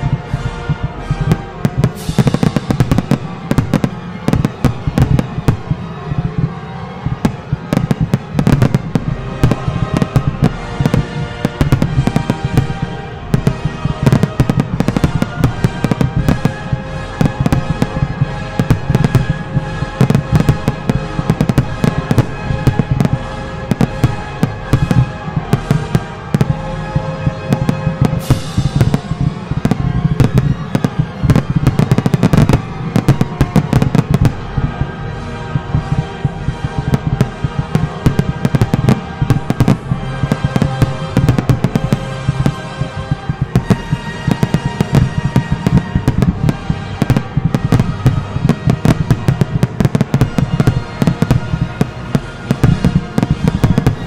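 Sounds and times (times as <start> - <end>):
fireworks bursting: 0.0 - 54.0
music playing: 0.0 - 54.0.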